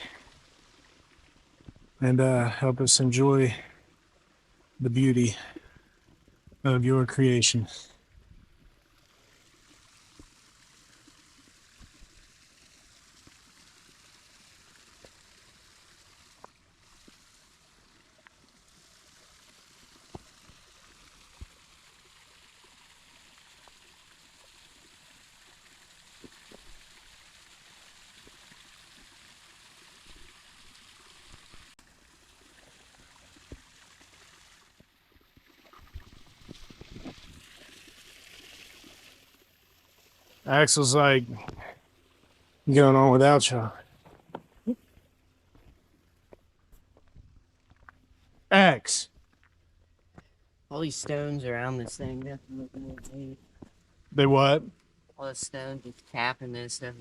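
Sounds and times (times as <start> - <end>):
running water: 0.0 - 57.0.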